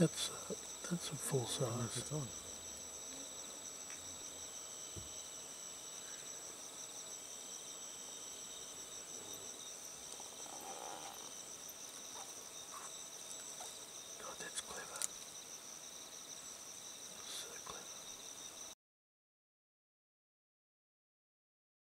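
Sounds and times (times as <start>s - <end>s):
crickets trilling: 0.0s - 18.8s.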